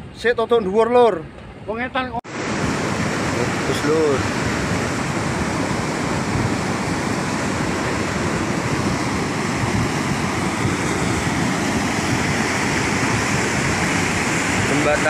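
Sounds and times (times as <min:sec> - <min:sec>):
mudflow rushing: 0:02.3 - 0:15.0.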